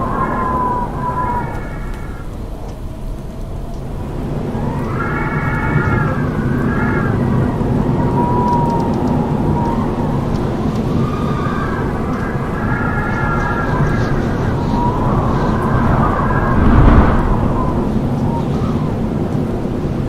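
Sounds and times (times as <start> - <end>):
strong wind howling: 0.0 - 20.0.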